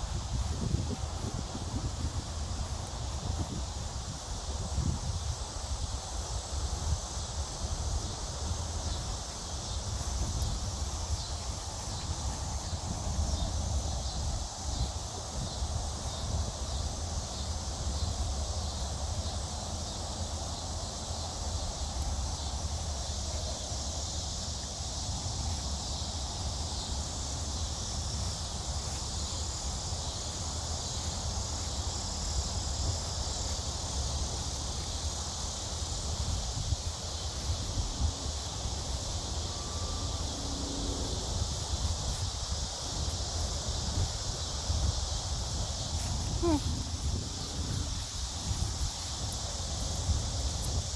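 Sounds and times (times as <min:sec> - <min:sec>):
high insect drone: 0:00.0 - 0:50.9
wind rumble on microphone: 0:00.0 - 0:50.9.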